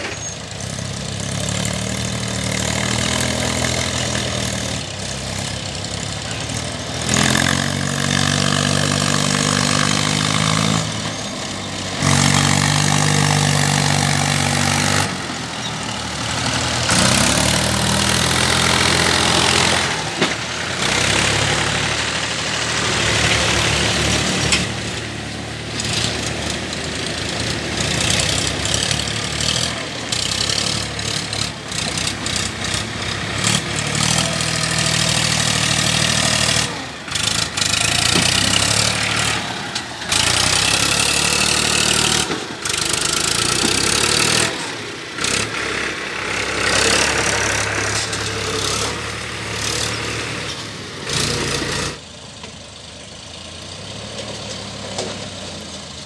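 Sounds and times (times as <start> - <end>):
tractor diesel engine labouring: 0.0 - 56.0.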